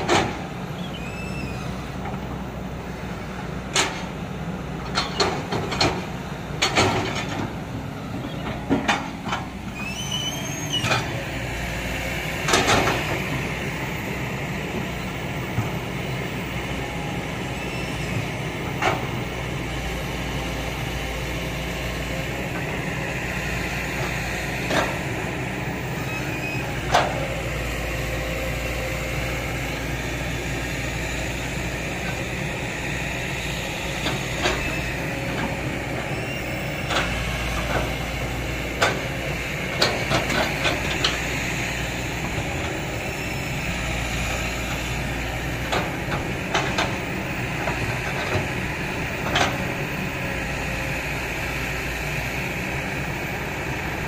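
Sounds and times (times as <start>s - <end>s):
excavator running under load: 0.0s - 54.0s.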